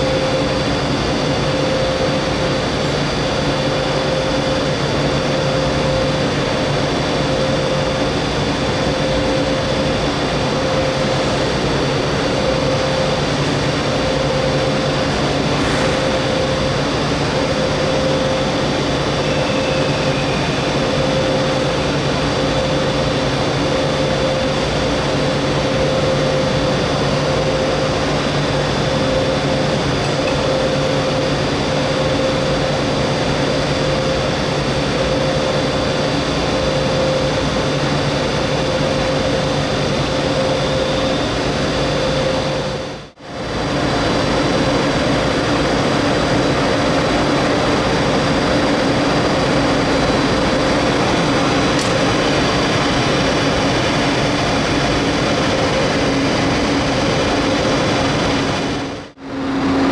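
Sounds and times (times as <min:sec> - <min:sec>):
pulsing whine: 0:00.0 - 0:59.9
train mechanical hum: 0:00.0 - 0:59.9.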